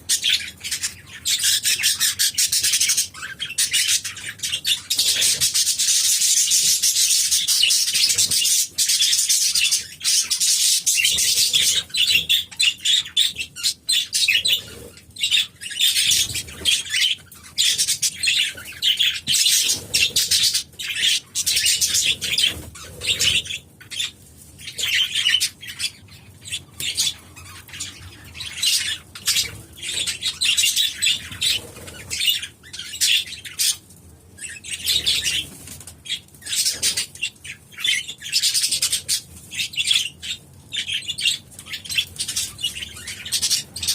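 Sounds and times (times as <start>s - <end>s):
birds chattering and chirping: 0.0s - 43.9s.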